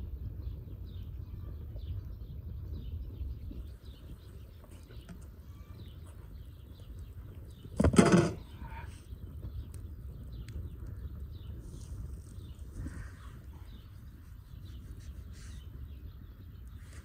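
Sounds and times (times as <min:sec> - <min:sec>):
fire crackling: 0:00.0 - 0:17.0
small birds chirping: 0:00.0 - 0:17.0
wood fire burning: 0:00.0 - 0:17.0.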